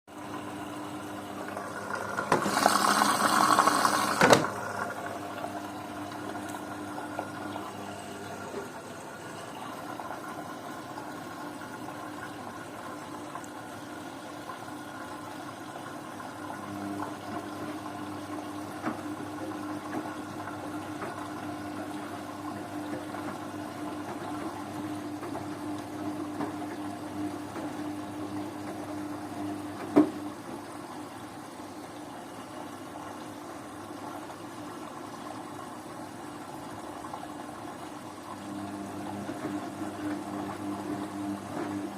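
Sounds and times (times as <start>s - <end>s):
washing machine humming: 0.1s - 41.9s
water rushing into washing machine: 0.1s - 41.9s.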